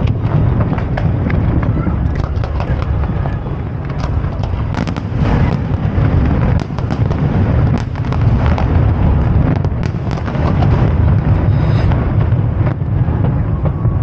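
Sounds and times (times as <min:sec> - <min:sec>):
fireworks bangs: 0:00.0 - 0:14.0
low rumble: 0:00.0 - 0:14.0.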